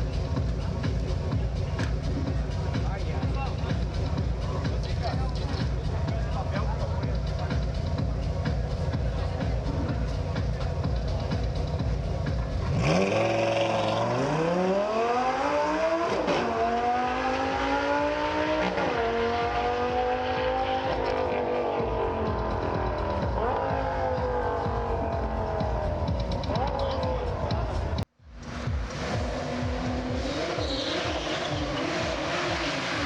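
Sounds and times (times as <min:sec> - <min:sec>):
sports car engine accelerating: 0:00.0 - 0:33.0.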